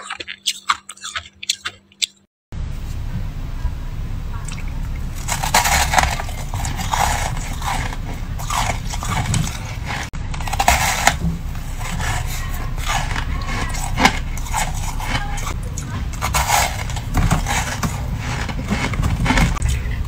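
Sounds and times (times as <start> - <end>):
frost being chewed crunching: 0.0 - 2.3, 4.4 - 20.0
low steady hum: 2.6 - 20.0.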